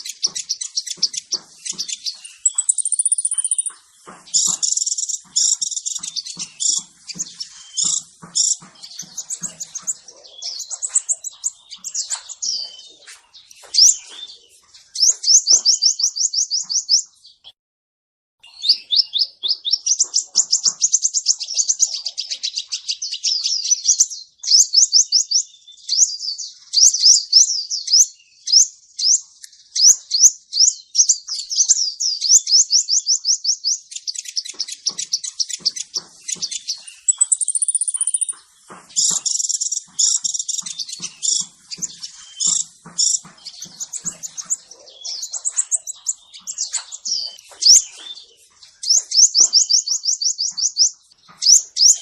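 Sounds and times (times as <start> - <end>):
bird singing high trills: 0.0 - 17.1, 18.4 - 52.0.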